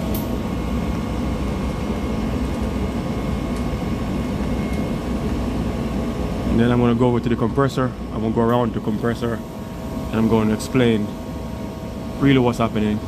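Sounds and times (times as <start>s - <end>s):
air conditioner compressor humming: 0.0s - 13.0s
fan air rush: 0.0s - 13.0s.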